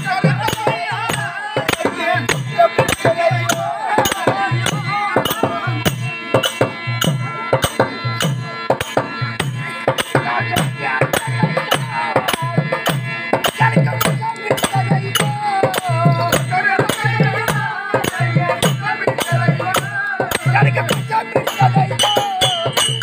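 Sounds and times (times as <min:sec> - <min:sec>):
harmonium sustained notes: 0:00.0 - 0:23.0
man's voice: 0:00.0 - 0:23.0
sharp clicking percussion: 0:00.0 - 0:23.0.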